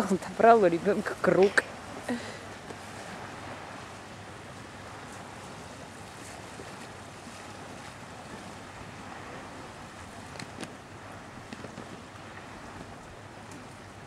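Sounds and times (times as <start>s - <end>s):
water lapping on shore: 0.0s - 14.0s.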